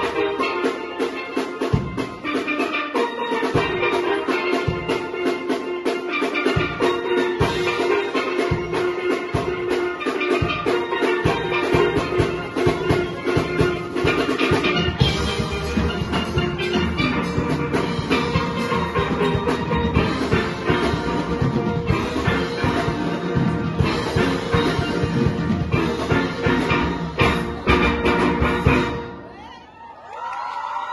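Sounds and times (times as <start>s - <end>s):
steel band playing: 0.0s - 29.8s
percussion beat: 0.0s - 30.4s.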